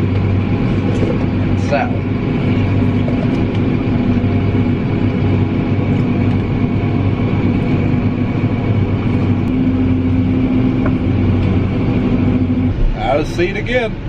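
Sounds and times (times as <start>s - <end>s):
tractor engine drone: 0.0s - 14.0s.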